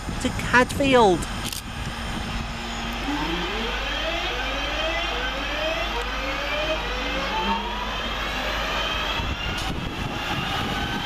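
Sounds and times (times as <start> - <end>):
wheel and rail rumble: 0.0 - 11.0
traction motor whine rising: 1.3 - 11.0.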